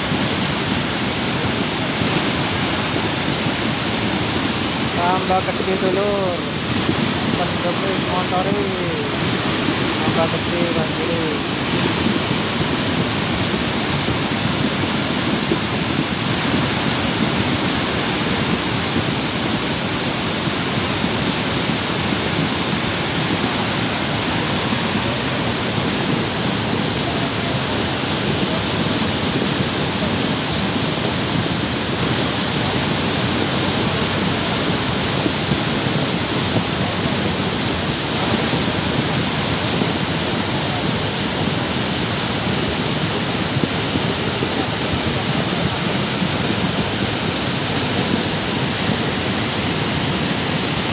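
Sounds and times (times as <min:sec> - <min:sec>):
muddy torrent rushing: 0:00.0 - 0:50.9.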